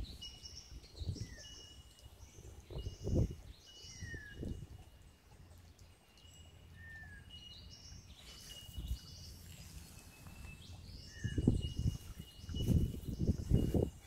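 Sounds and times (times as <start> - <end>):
birds chirping and whistling: 0.0 - 4.6, 6.2 - 14.0.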